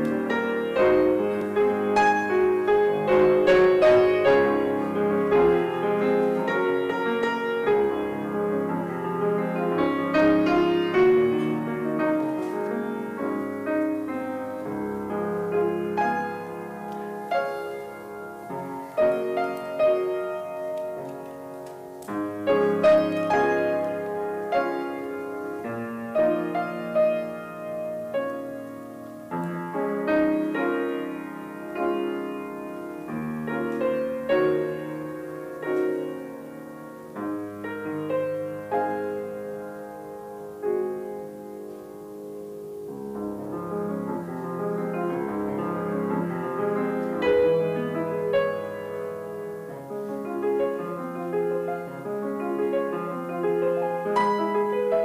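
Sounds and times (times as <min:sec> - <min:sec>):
slow gentle piano piece: 0:00.0 - 0:55.0.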